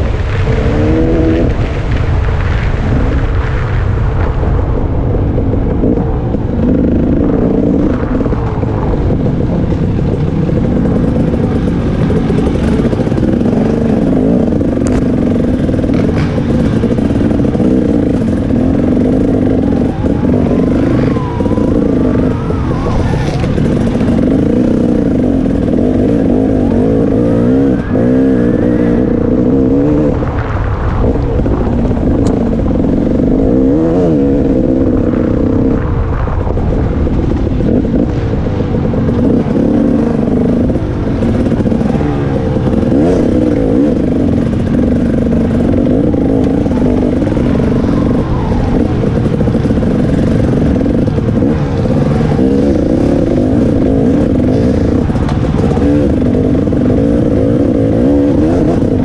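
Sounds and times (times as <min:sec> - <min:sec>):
two-stroke engine revving: 0:00.0 - 0:02.0, 0:06.6 - 0:30.3, 0:37.6 - 0:59.0.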